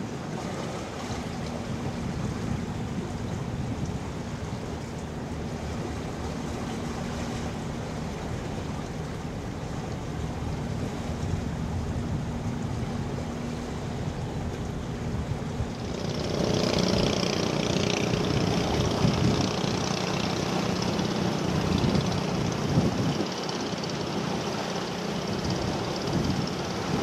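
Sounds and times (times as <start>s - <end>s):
ship engine low hum: 0.0s - 27.0s
water noise: 0.0s - 27.0s
wind: 0.0s - 27.0s.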